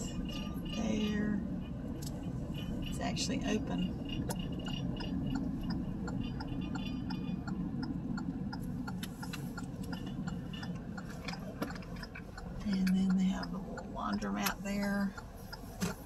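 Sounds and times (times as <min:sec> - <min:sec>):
car engine and road rumble: 0:00.0 - 0:16.0
turn signal ticking: 0:00.0 - 0:16.0.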